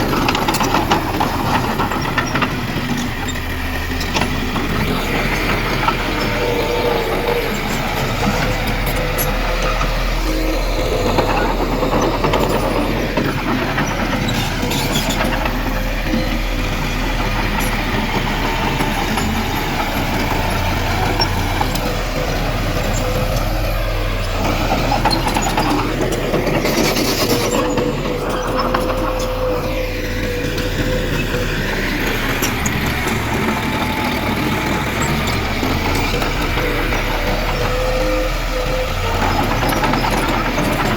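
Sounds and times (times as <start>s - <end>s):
diesel earthmoving machinery engines: 0.0s - 40.9s
steady machine whine: 0.0s - 40.9s.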